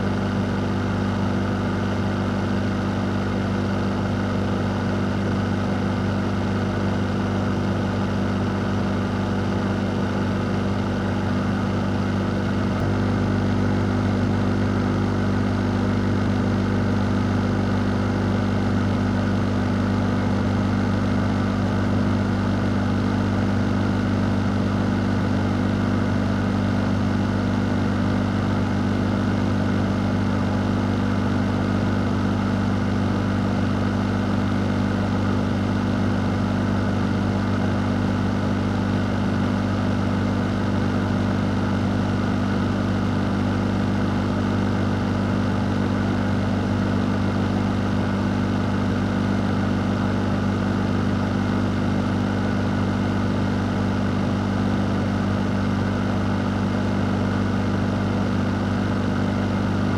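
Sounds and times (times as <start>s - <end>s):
electric fan motor hum: 0.0s - 59.9s.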